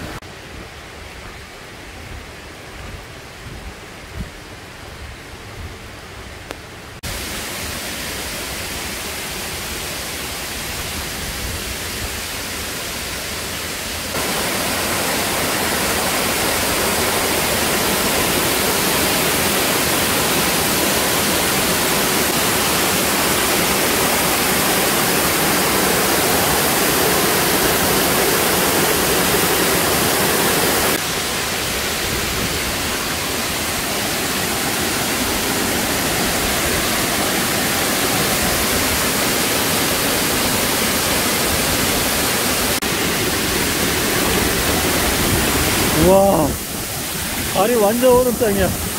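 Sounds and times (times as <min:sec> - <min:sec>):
waterfall rushing over rocks: 0:00.0 - 0:04.8, 0:07.0 - 0:48.9.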